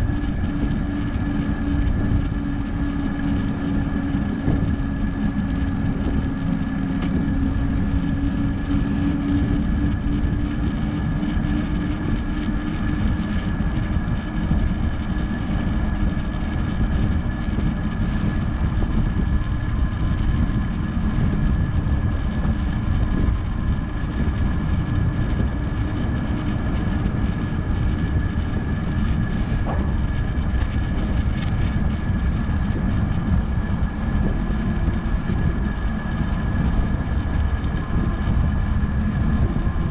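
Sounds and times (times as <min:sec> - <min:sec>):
low hum: 0:00.0 - 0:39.9
thin high whine: 0:00.0 - 0:39.9
wind buffeting microphone: 0:00.0 - 0:39.9.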